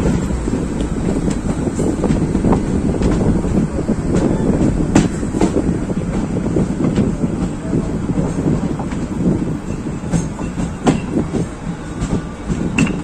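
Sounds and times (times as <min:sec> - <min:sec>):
train rumble from on board: 0:00.0 - 0:13.0
wheels clicking over rail joints: 0:00.0 - 0:13.0.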